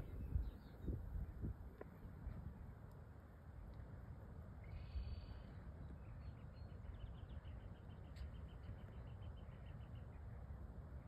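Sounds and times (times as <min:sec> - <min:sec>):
low wind rumble: 0:00.0 - 0:11.0.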